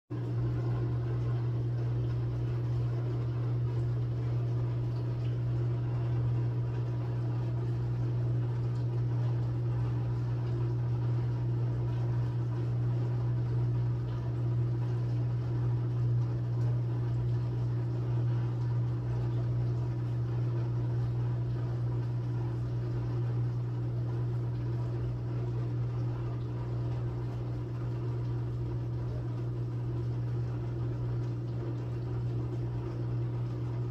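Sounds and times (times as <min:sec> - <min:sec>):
low mechanical hum: 0:00.1 - 0:33.9.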